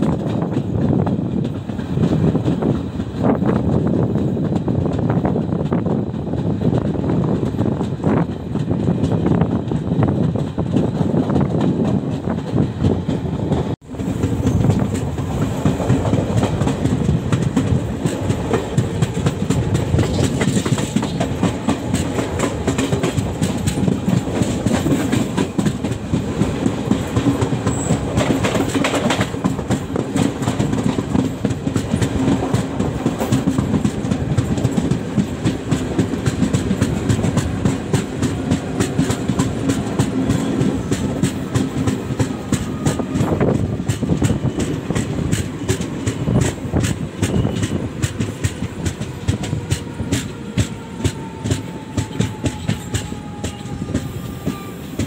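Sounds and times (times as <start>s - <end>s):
train running gear rumble: 0.0s - 55.0s
train wheels clattering over joints: 0.0s - 55.0s.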